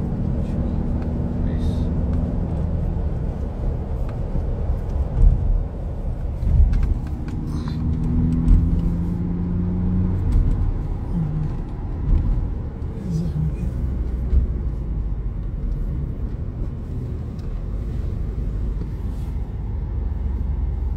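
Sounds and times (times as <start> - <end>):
car engine and road rumble: 0.0 - 20.9.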